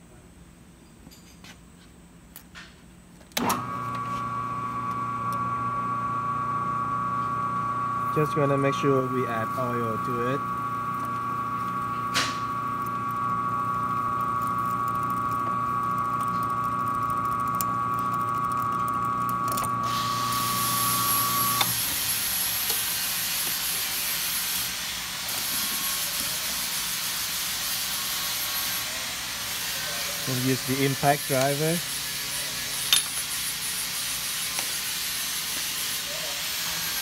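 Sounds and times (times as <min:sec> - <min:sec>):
drill press motor hum and whine: 0:03.4 - 0:37.0.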